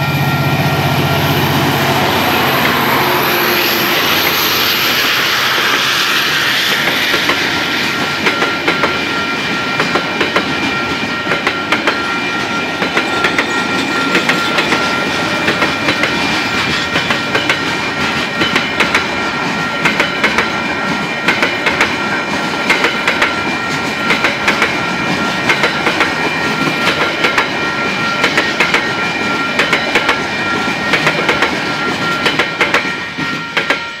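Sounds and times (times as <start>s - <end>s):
train wheels clacking on rails: 0.0s - 34.0s.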